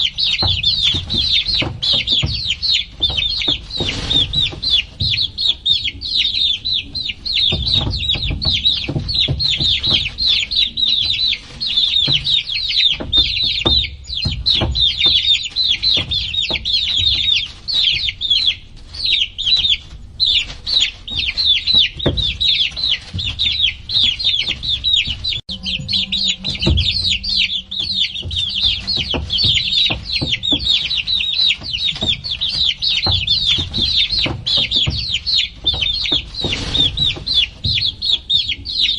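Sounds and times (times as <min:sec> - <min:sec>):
baby chicks peeping: 0:00.0 - 0:38.9
low thumps and knocks: 0:00.0 - 0:38.9.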